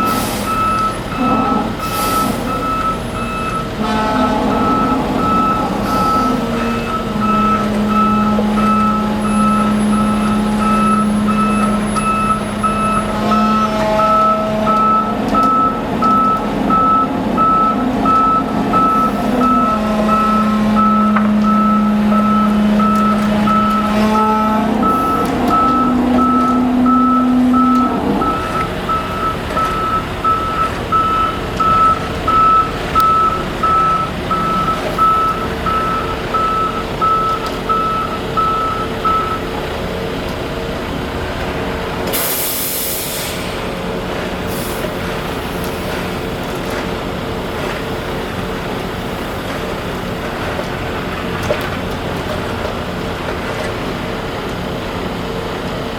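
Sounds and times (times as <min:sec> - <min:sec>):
truck engine humming: 0:00.0 - 0:55.9
truck reversing alarm beeping: 0:00.0 - 0:55.9.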